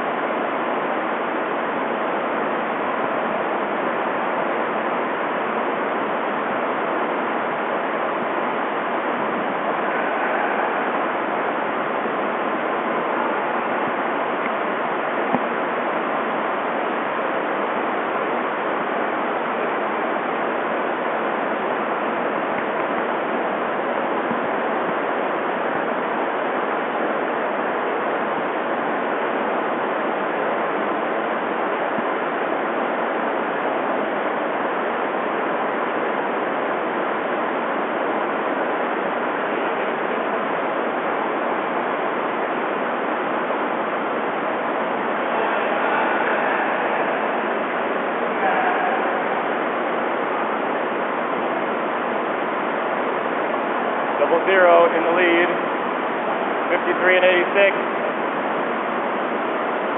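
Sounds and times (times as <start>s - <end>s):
electric fans rushing: 0.0s - 59.9s.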